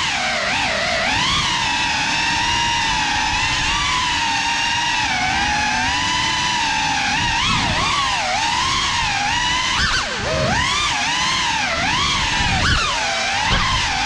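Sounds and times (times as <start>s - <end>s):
drone motors whining: 0.0s - 14.0s
propeller wash rushing: 0.0s - 14.0s.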